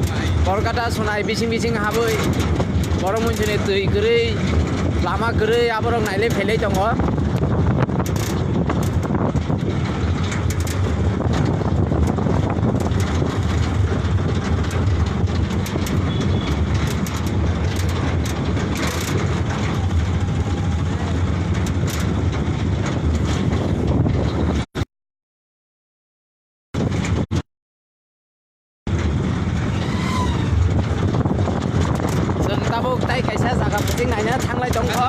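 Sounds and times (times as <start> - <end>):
rattles and knocks: 0.0 - 24.7, 26.8 - 27.4, 28.9 - 35.0
truck engine and road rumble: 0.0 - 24.9, 26.8 - 27.4, 28.9 - 35.0.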